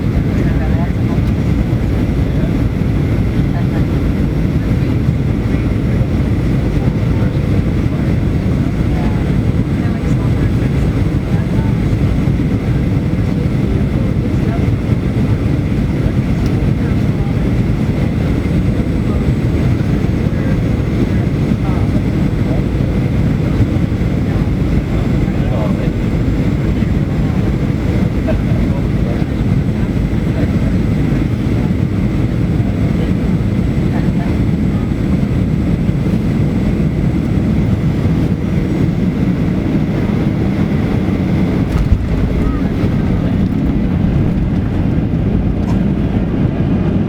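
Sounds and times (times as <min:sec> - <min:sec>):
airliner engines and airflow rumble: 0:00.0 - 0:47.0.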